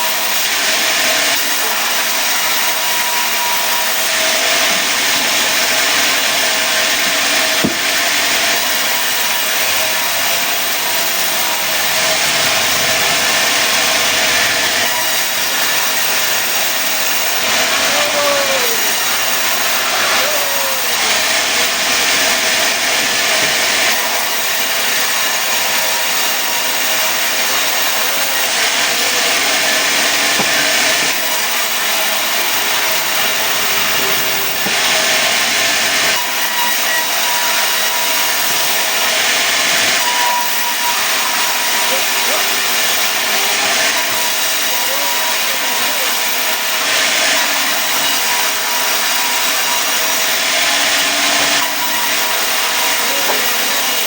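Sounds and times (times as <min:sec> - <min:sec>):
sawmill saw cutting logs: 0:00.0 - 0:54.0.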